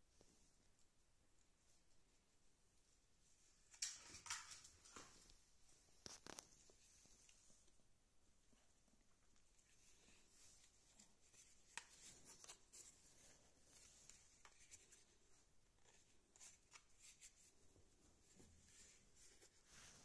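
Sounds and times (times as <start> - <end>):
faint crackles and rustles: 0.0 - 20.0.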